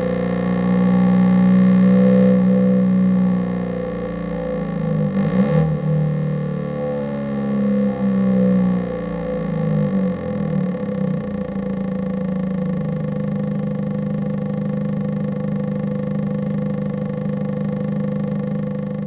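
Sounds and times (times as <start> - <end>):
electronic engine drone: 0.0 - 19.0.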